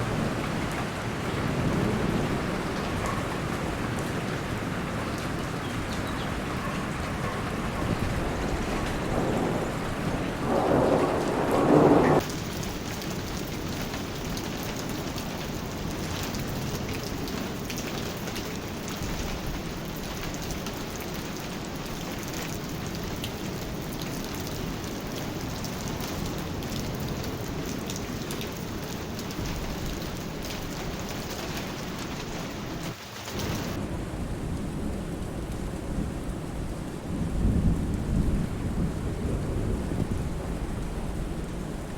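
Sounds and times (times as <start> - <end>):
heavy rainfall: 0.0 - 41.9
thunder rumble: 7.5 - 41.9.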